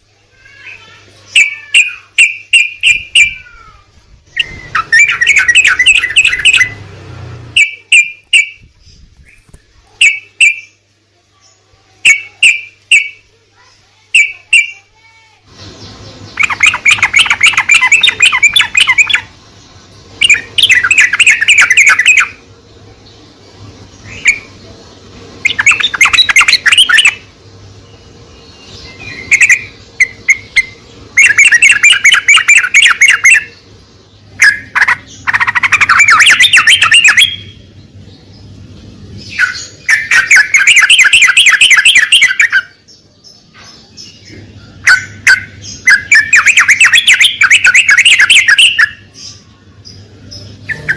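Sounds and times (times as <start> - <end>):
bulbul chattering song: 0.0 - 50.9.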